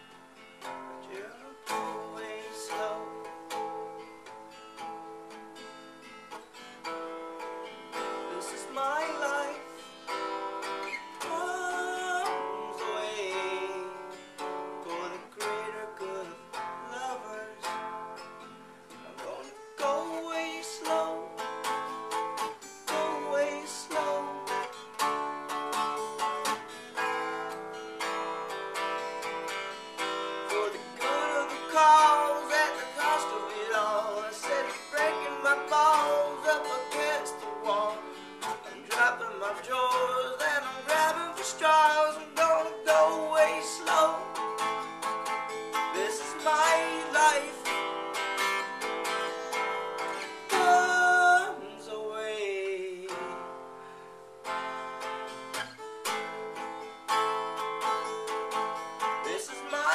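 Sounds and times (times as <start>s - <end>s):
acoustic guitar strumming: 0.0s - 59.9s
man singing: 0.6s - 4.1s, 7.9s - 18.2s, 18.9s - 27.5s, 29.3s - 53.8s, 57.9s - 59.9s.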